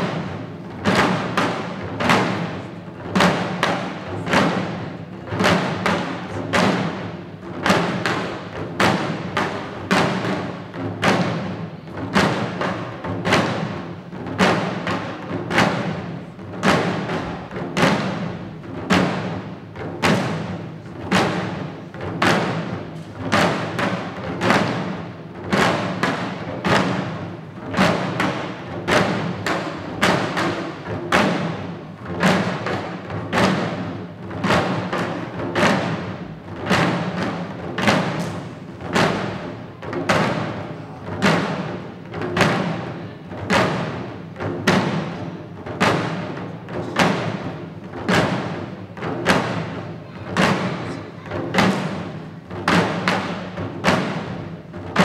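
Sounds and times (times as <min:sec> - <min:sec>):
taiko drums beating: 0:00.0 - 0:55.0.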